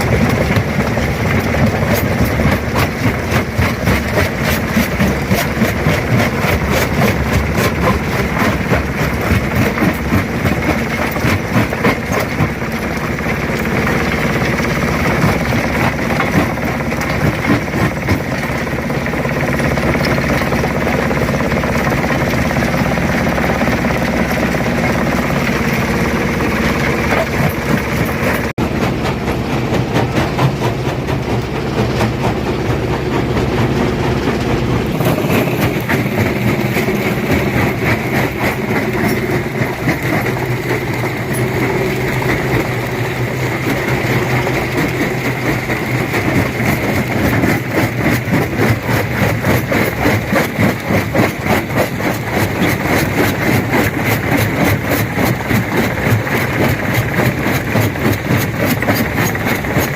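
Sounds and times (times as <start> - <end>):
heavy machine drone: 0.0 - 59.9.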